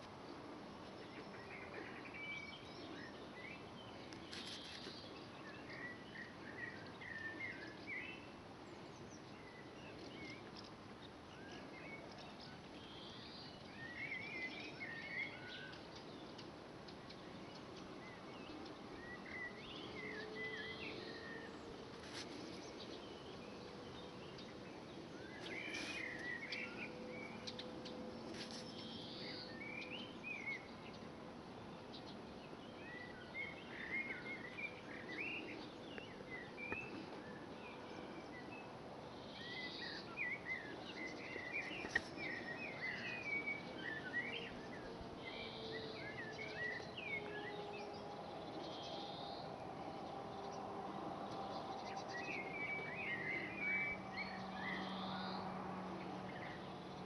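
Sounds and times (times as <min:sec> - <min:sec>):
steady background hiss: 0:00.0 - 0:55.8.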